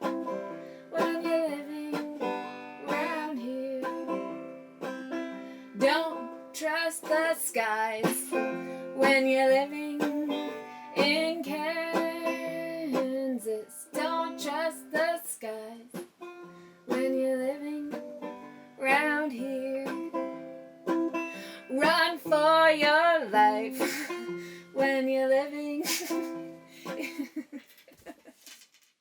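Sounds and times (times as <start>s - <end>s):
plucked string instrument: 0.0s - 27.4s.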